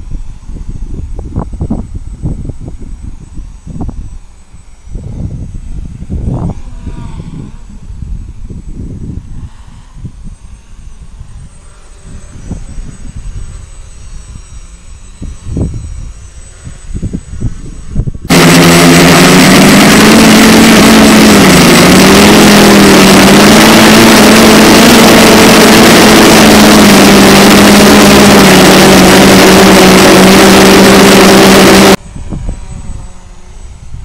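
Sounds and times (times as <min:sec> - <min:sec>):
drone motors and propellers humming: 0:00.0 - 0:34.0
gusty wind rumbling: 0:04.8 - 0:13.7, 0:15.2 - 0:34.0.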